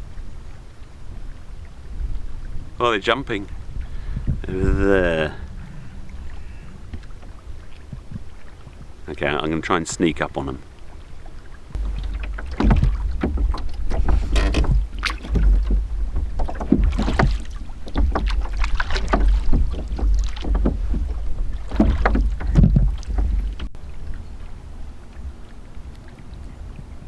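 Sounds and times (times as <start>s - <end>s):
wind on microphone: 0.0s - 9.3s, 11.0s - 27.0s
paddle strokes splashing: 0.0s - 27.0s.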